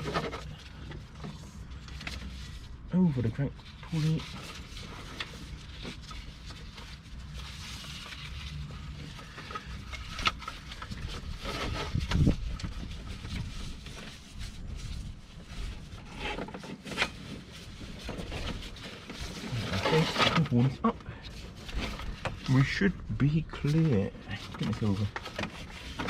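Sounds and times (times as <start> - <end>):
rubber belt rubbing and scraping: 0.0 - 22.9, 23.6 - 26.0.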